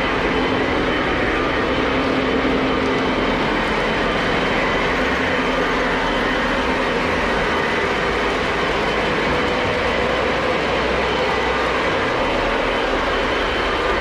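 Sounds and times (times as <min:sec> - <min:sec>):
faint steady tones: 0:00.0 - 0:14.0
model train wheels rumbling on track: 0:00.0 - 0:14.0.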